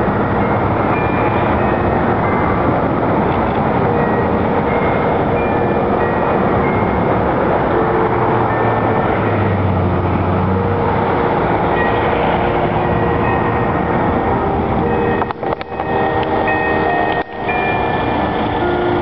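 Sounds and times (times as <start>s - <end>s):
church bells ringing a tune: 0.0s - 19.0s
loud steady background noise: 0.0s - 19.0s.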